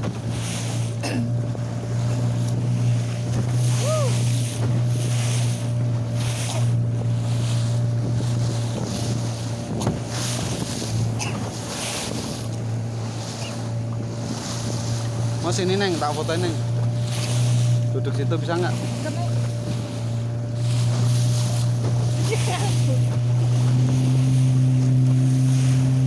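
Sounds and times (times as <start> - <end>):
boat engine droning: 0.0 - 26.0
water rushing past hull: 0.0 - 26.0
wind buffeting microphone: 1.7 - 26.0.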